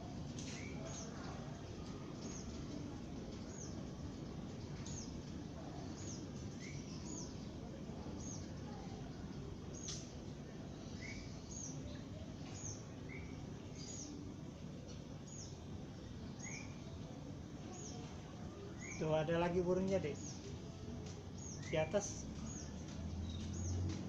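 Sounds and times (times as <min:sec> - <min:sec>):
sparrows chirping: 0:00.0 - 0:24.0.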